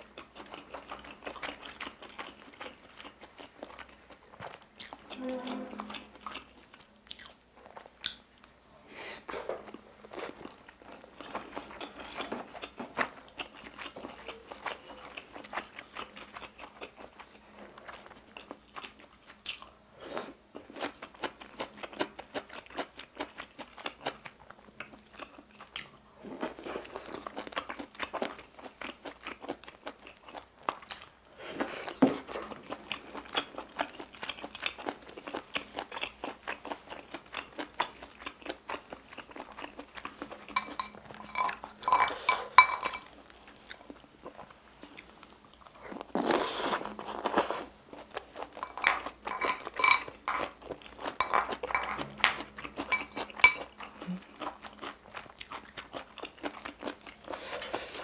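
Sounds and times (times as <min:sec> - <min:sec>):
close chewing and mouth sounds: 0:00.0 - 0:08.6, 0:09.2 - 0:58.0.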